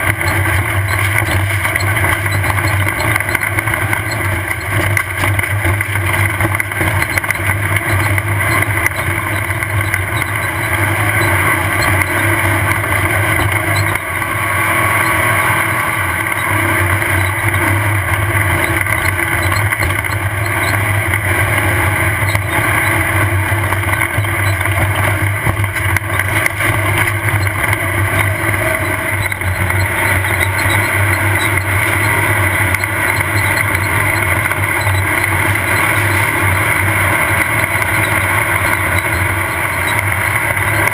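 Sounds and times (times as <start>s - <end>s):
constant rush of noise: 0.0s - 40.9s
race buggy engine running: 0.0s - 40.9s.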